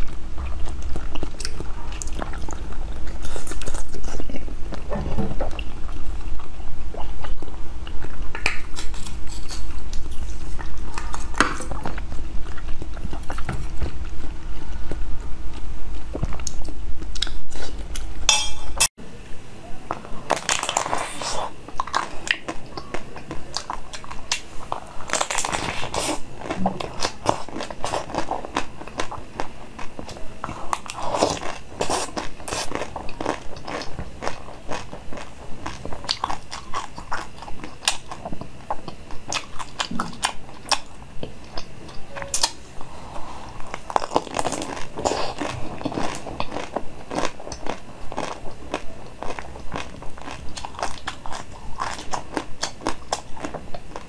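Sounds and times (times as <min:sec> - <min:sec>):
crunchy chewing: 0:00.0 - 0:18.1, 0:19.9 - 0:54.0.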